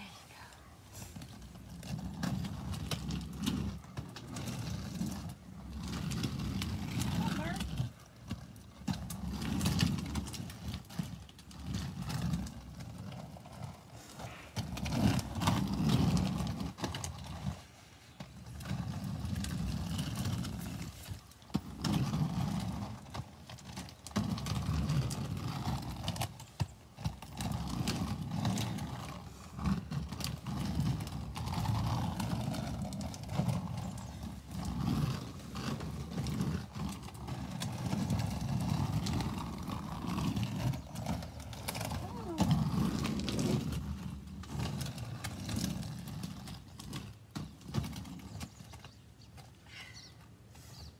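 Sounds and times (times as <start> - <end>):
roller skate wheels on asphalt: 0.0 - 50.9.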